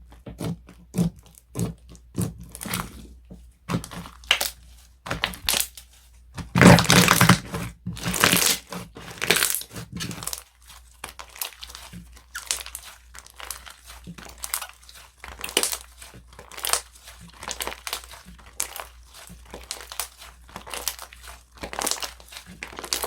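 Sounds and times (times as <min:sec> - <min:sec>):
hands squishing slime: 0:00.1 - 0:23.0.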